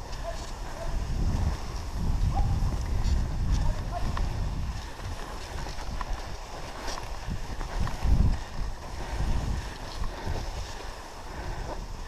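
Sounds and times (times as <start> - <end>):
sled runners sliding over snow: 0.0 - 12.0
wind noise on microphone: 0.0 - 12.0.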